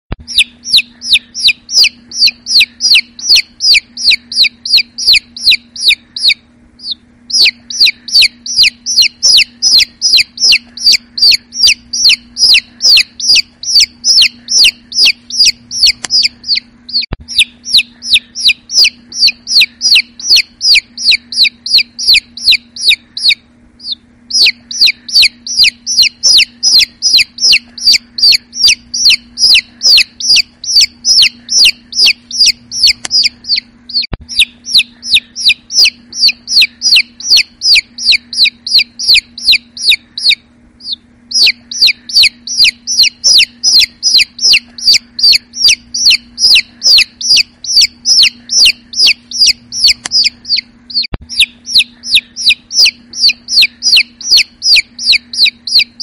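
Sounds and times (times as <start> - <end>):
chick peeping: 0.2 - 56.0.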